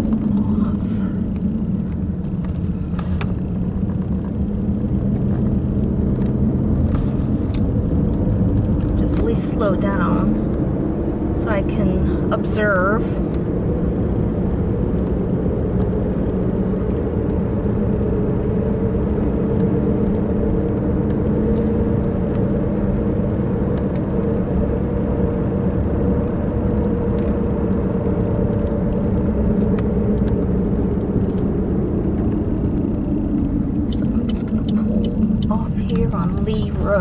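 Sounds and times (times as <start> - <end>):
car engine and road drone: 0.0 - 37.0.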